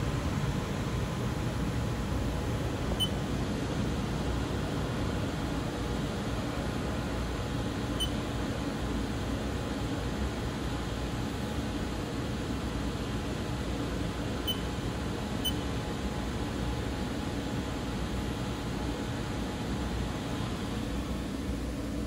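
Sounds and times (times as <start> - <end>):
machine steady hum: 0.0 - 22.0.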